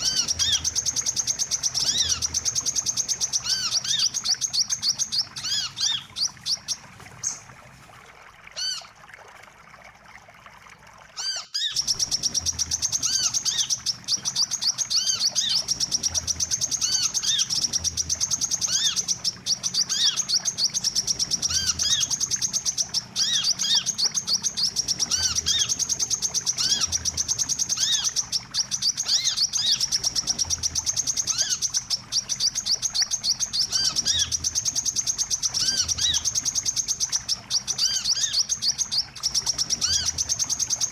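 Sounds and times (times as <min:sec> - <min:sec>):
rapid high bird chirping: 0:00.0 - 0:07.4, 0:11.2 - 0:40.9
recorded bird calls: 0:00.0 - 0:07.6, 0:11.2 - 0:40.9.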